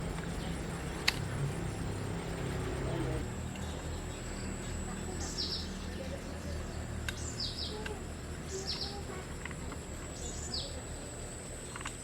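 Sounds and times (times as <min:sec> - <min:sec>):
bird chirping: 0:00.0 - 0:11.8
low hum: 0:00.0 - 0:12.0.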